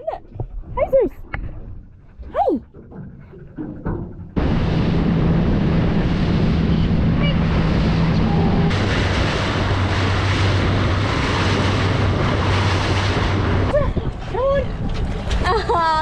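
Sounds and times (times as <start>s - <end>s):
wind buffeting microphone: 0.0s - 16.0s
water rushing past hull: 1.5s - 15.6s
outboard motor running: 1.6s - 15.9s.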